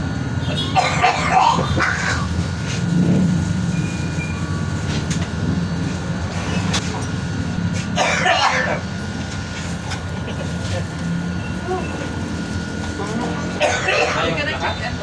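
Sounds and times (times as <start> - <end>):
low rumble of moving vehicle: 0.0 - 15.0.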